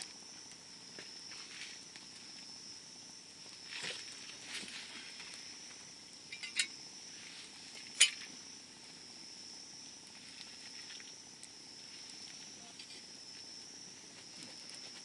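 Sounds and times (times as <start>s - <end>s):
campfire soft crackling: 0.0s - 15.0s.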